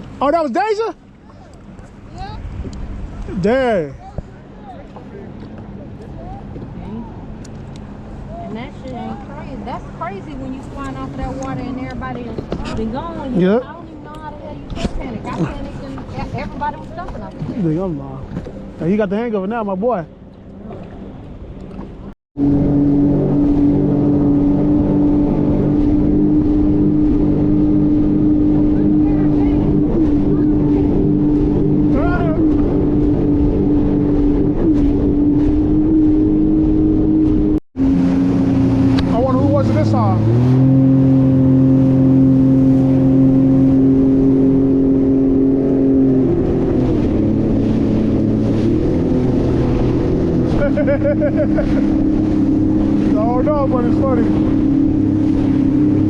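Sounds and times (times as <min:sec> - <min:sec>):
jet ski engine drone: 0:00.0 - 0:56.0
rushing water noise: 0:00.0 - 0:56.0.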